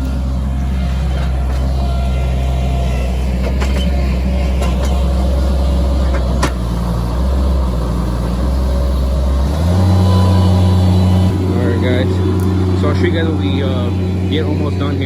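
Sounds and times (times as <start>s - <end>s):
diesel loader engine running: 0.0s - 15.0s.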